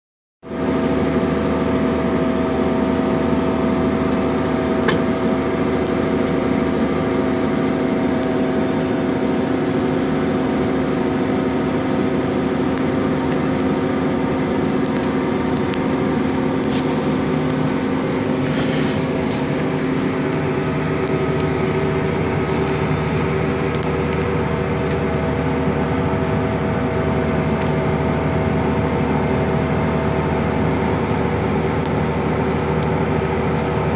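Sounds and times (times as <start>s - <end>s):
tractor diesel engine droning: 0.5s - 33.9s.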